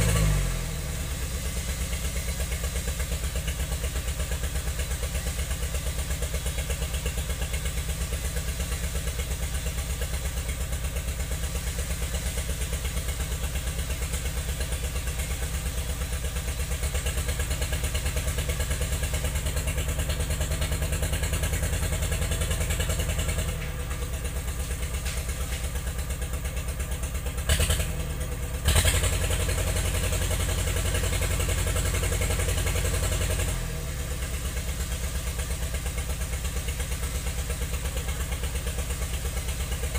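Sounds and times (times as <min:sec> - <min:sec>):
heavy machine engine idling: 0:00.0 - 0:39.9.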